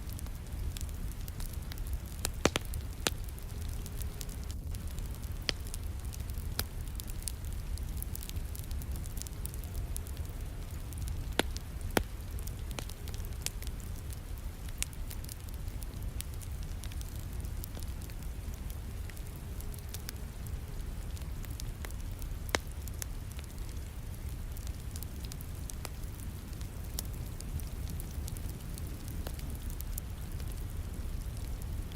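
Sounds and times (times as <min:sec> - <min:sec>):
rain: 0:00.0 - 0:31.9
wood fire crackling: 0:00.0 - 0:31.9
sharp pops from fire: 0:00.1 - 0:20.2, 0:21.0 - 0:31.9.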